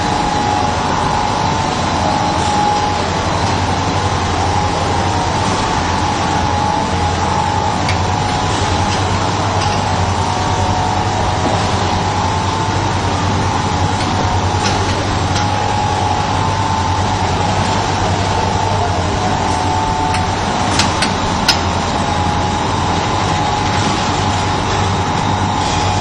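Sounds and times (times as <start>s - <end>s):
constant machine hum: 0.0s - 26.0s
conveyor machinery running: 0.0s - 26.0s.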